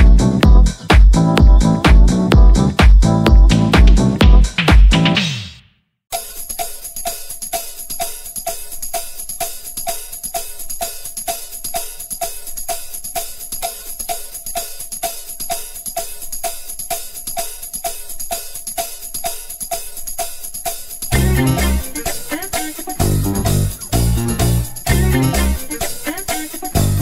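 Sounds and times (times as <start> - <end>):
instrumental music with drum beat: 0.0 - 27.0.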